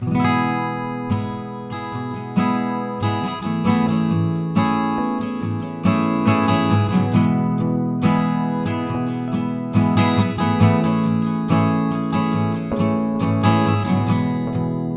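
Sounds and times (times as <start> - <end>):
acoustic guitar music: 0.0 - 14.9.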